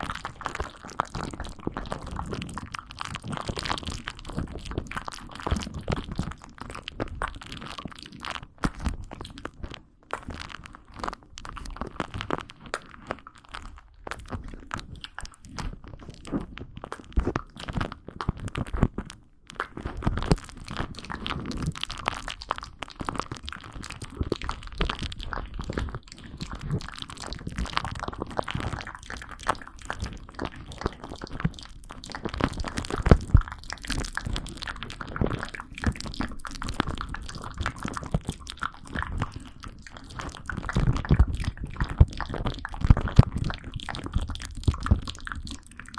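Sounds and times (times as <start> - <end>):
crunching and crackling: 0.0 - 45.9.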